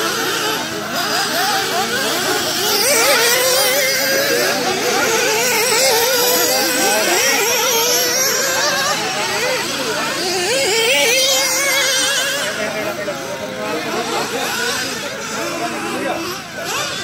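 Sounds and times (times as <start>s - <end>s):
rc car motors revving: 0.0s - 17.0s.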